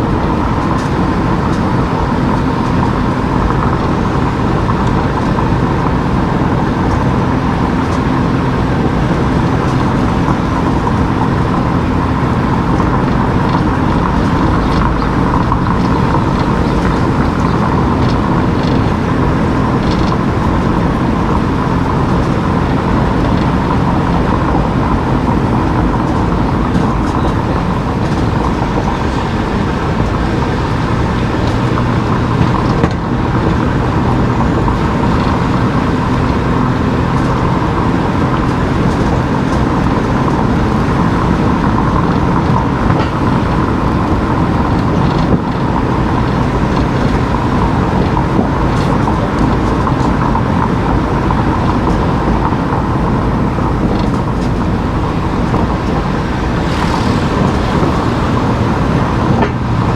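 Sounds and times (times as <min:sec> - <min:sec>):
car engine and tyre hum: 0:00.0 - 0:59.9.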